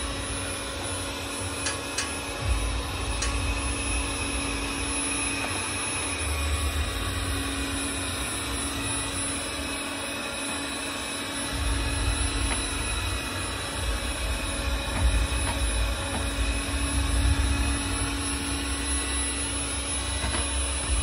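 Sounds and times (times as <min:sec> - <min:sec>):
window-cleaning robot whirring: 0:00.0 - 0:21.0.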